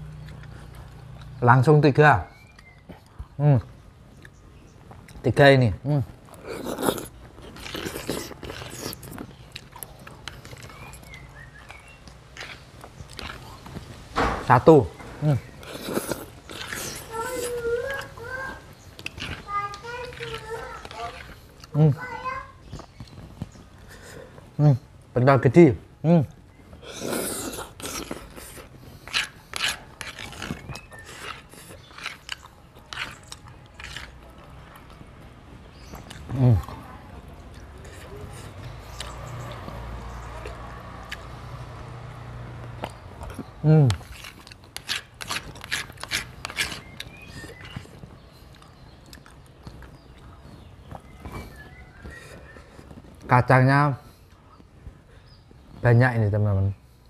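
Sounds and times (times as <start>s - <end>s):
person chewing wetly: 0.0s - 1.4s, 2.4s - 5.2s, 6.0s - 14.0s, 15.0s - 22.0s, 26.3s - 53.4s.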